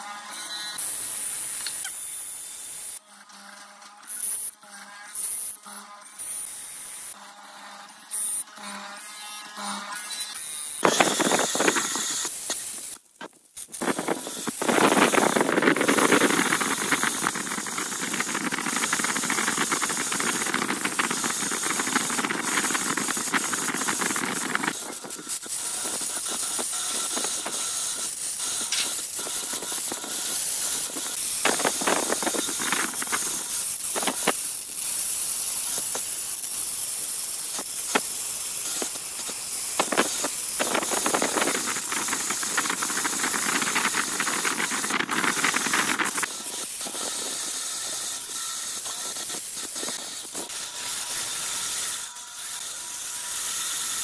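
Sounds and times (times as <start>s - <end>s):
bandsaw cutting wood: 0.0s - 54.0s.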